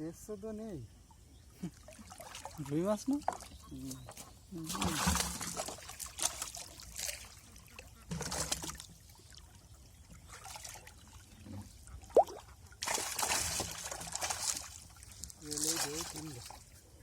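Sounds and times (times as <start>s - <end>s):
water trickling and splashing: 1.0s - 17.0s.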